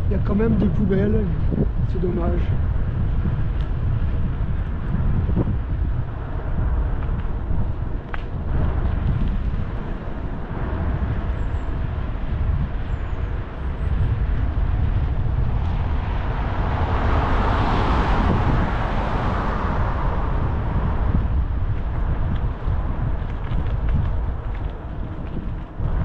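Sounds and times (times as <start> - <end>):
wind rumble on microphone: 0.0 - 26.0
car passing: 4.8 - 26.0.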